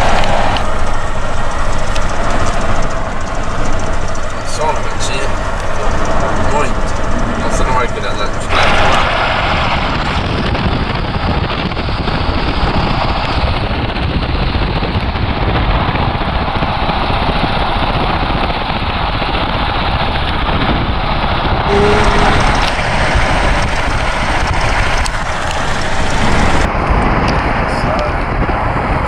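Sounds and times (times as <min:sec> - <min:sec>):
road and engine noise inside car: 0:00.0 - 0:29.0.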